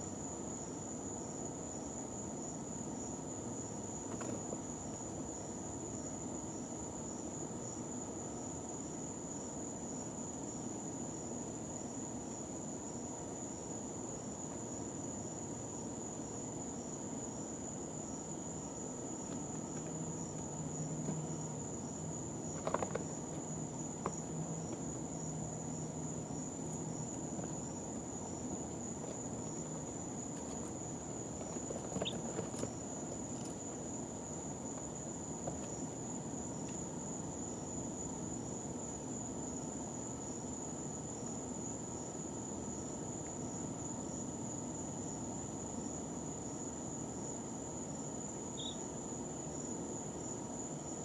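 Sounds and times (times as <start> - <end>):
steady high-pitched whine: 0.0 - 51.0.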